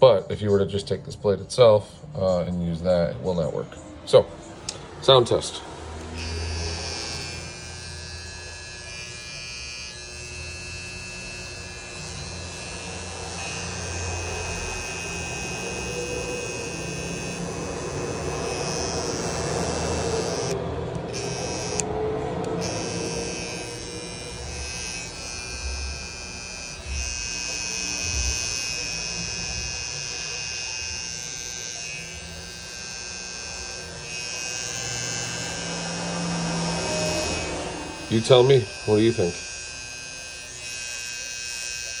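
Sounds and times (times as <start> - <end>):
cordless hair trimmer buzzing: 4.6 - 42.0.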